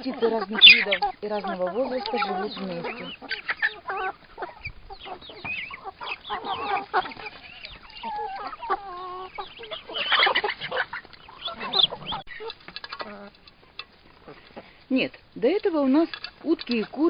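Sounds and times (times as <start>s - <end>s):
chickens clucking and calling: 0.0s - 17.0s.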